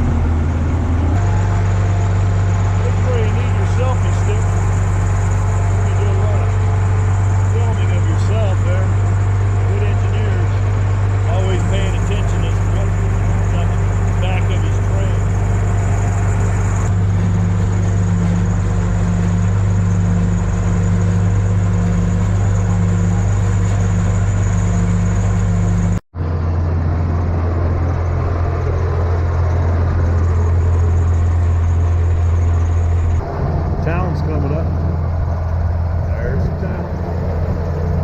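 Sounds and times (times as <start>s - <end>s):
locomotive engine droning: 0.0s - 38.0s.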